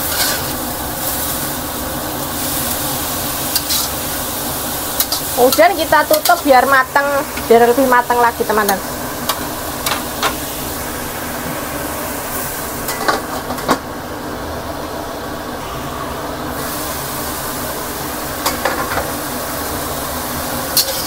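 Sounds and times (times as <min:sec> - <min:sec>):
food sizzling in a wok: 0:00.0 - 0:21.0.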